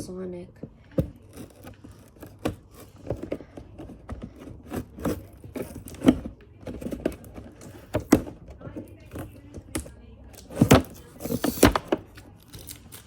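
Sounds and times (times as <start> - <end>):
packaging scraping and rubbing: 1.0 - 9.7, 10.4 - 13.0.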